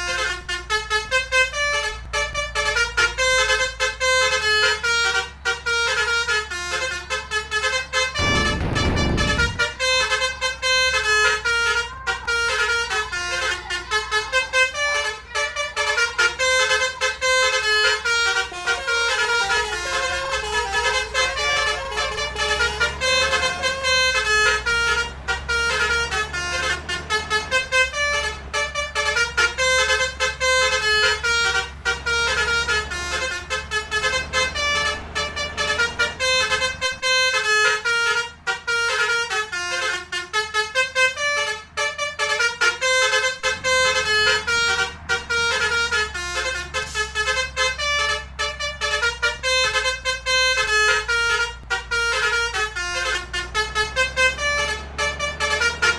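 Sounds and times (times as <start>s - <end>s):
bus engine rumble: 0.0s - 55.9s
multi-tone bus horn melody: 0.0s - 55.9s.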